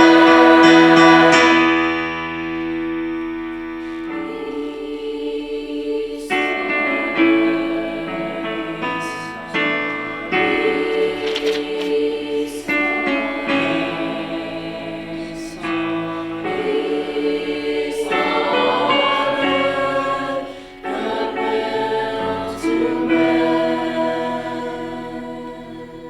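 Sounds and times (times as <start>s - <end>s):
choir singing held chords: 0.0s - 26.0s.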